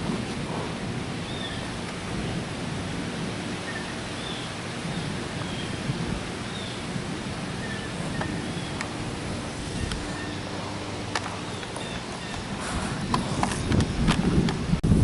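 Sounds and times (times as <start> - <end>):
strong wind rushing: 0.0 - 15.0.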